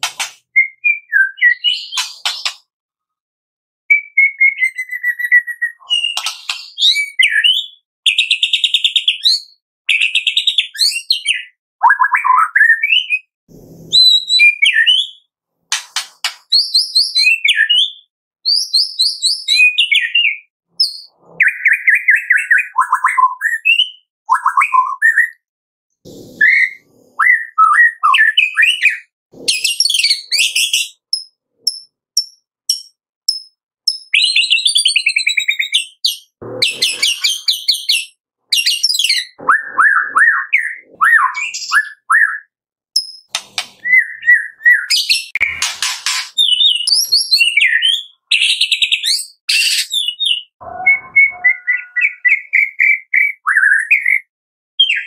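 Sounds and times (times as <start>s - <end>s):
bird singing whistles and trills: 0.5s - 2.6s, 3.9s - 13.3s, 13.9s - 15.3s, 16.5s - 25.4s, 26.3s - 31.3s, 32.7s - 55.0s.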